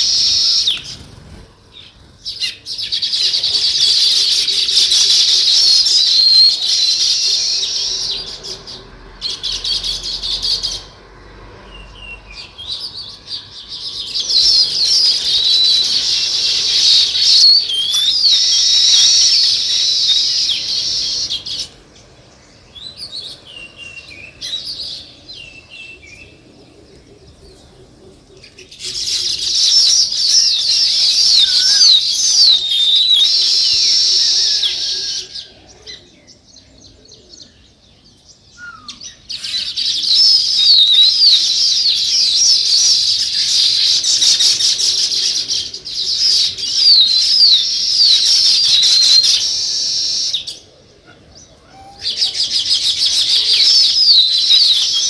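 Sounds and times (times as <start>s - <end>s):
songbirds chirping and chattering: 0.0s - 55.0s.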